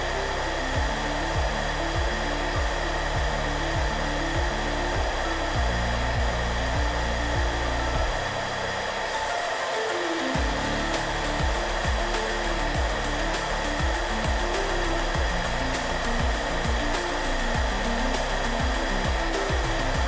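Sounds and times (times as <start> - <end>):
hair dryer running: 0.0 - 20.0
soft background music: 0.0 - 20.0.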